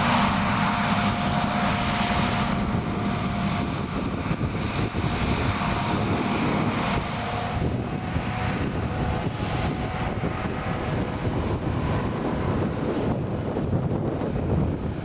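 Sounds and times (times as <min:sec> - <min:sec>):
diesel machinery running: 0:00.0 - 0:15.0
wind buffeting microphone: 0:00.0 - 0:15.0.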